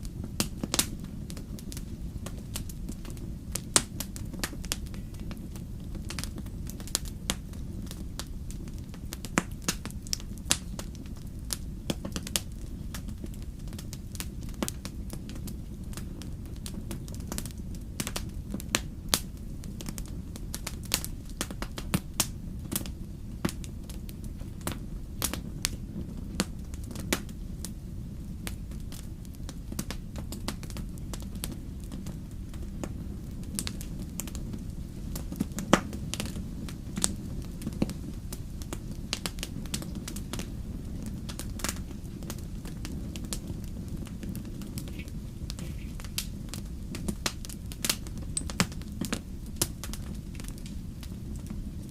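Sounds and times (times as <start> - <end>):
fireplace fire crackling: 0.0 - 51.9.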